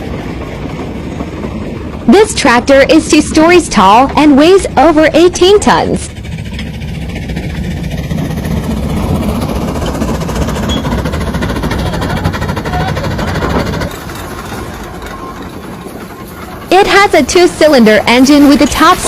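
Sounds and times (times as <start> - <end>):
steam traction engine throbbing: 0.0 - 19.0.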